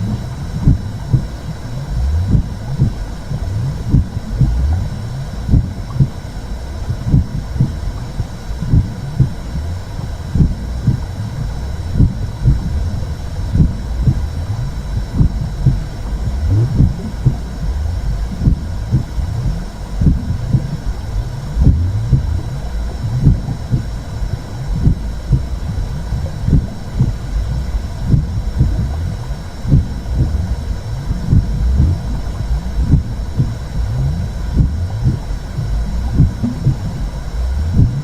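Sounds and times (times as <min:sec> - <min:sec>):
low rumbling whoosh: 0:00.0 - 0:38.0
soft heartbeat pulse: 0:00.0 - 0:38.0.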